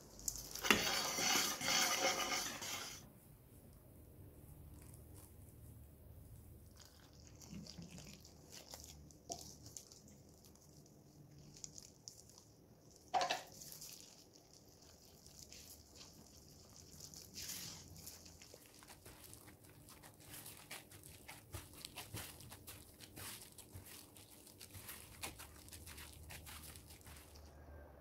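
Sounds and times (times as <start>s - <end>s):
gloved hand squishing dough: 0.0s - 2.8s, 3.4s - 27.8s.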